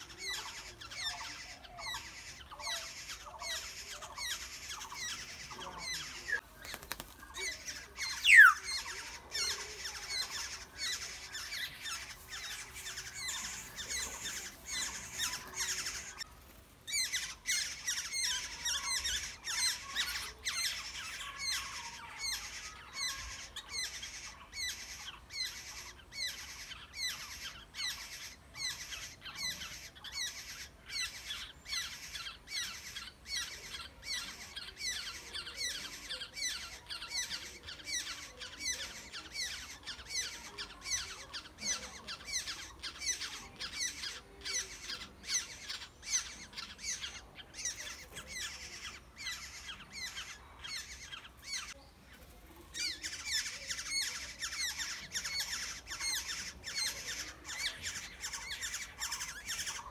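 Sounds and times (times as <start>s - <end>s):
nestlings begging with shrill calls: 0.0s - 59.9s.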